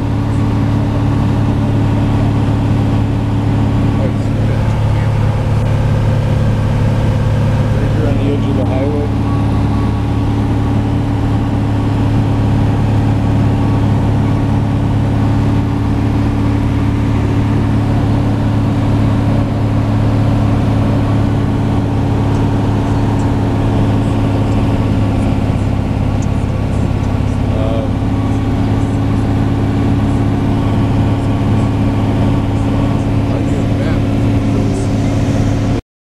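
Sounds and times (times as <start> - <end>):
light aircraft engine droning: 0.0 - 35.8.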